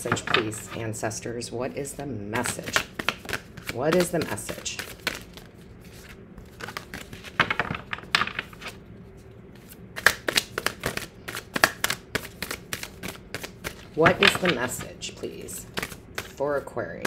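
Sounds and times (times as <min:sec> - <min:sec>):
cards being shuffled: 0:02.4 - 0:17.0.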